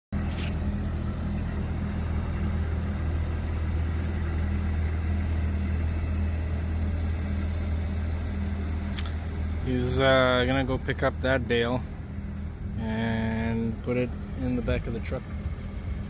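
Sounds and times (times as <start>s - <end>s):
engine running steadily: 0.1s - 16.0s.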